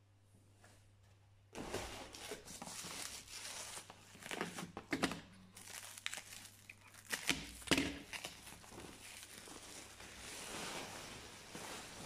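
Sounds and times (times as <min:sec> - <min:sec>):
plastic film crinkling: 0:02.2 - 0:12.0.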